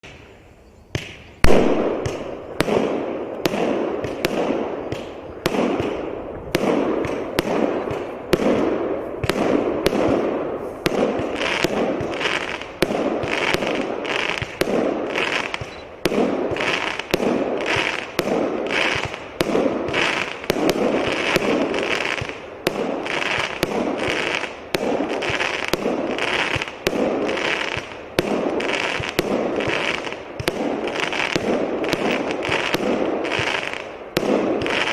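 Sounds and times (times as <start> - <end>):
high firework hiss: 0.0 - 34.9
firework shots launching and bursting: 1.0 - 34.9.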